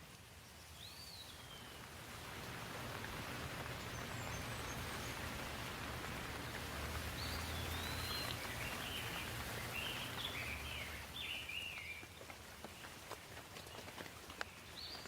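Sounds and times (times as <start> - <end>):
steady rain falling: 0.0 - 15.0
water drips: 0.0 - 15.0
songbird singing: 0.3 - 15.0.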